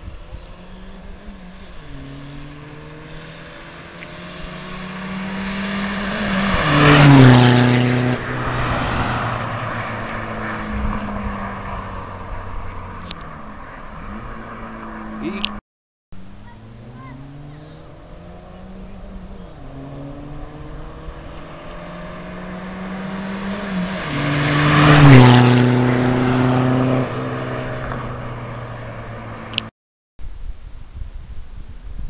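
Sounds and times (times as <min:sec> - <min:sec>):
car engines accelerating hard: 0:00.0 - 0:15.6, 0:16.4 - 0:29.7.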